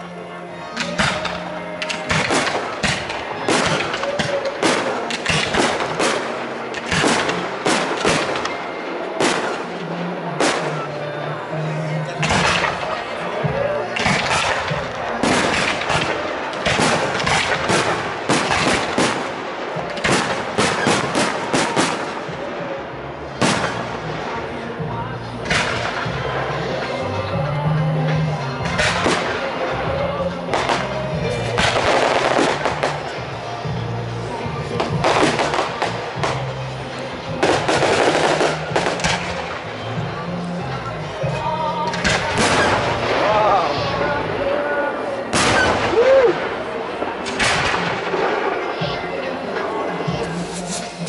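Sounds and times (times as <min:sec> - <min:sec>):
fireworks bursting with sharp bangs: 0:00.7 - 0:11.0, 0:12.2 - 0:24.8, 0:25.4 - 0:27.0, 0:28.1 - 0:40.3, 0:41.1 - 0:51.0.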